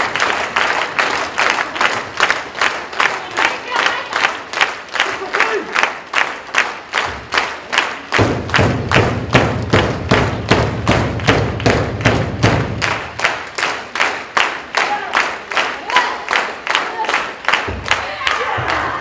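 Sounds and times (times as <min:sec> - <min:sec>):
audience clapping in unison: 0:00.0 - 0:19.0.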